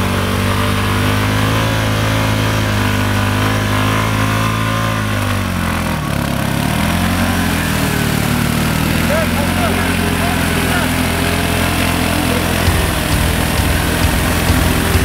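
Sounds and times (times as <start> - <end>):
atv engine revving: 0.0 - 15.0
wheels spinning in mud: 0.0 - 15.0.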